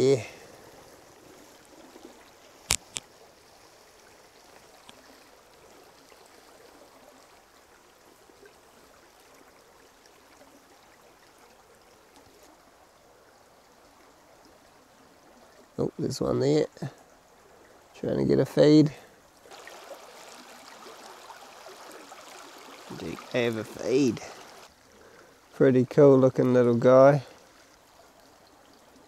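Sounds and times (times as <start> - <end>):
creek trickling over stones: 0.0 - 29.0.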